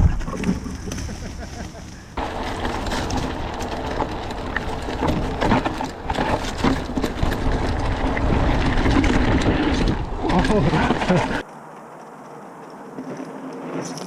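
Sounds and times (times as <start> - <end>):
bike rattles and knocks: 0.0 - 11.4
bike tyre noise: 0.0 - 14.0.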